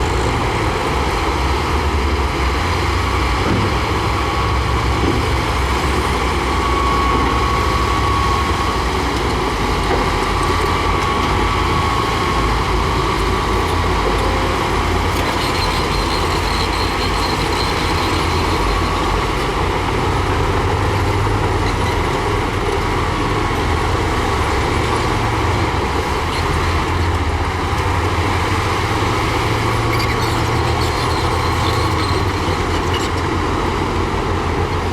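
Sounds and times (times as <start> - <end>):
heavy diesel machinery rumbling: 0.0 - 34.9.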